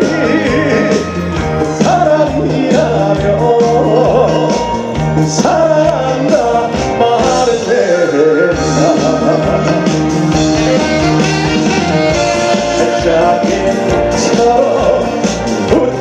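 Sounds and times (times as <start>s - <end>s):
drum beat: 0.0s - 7.8s, 8.5s - 16.0s
bass: 0.0s - 16.0s
person singing: 0.0s - 16.0s.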